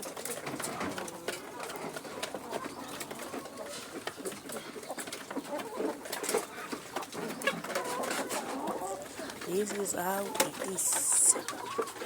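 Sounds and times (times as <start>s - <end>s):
young chickens clucking: 0.0s - 12.0s.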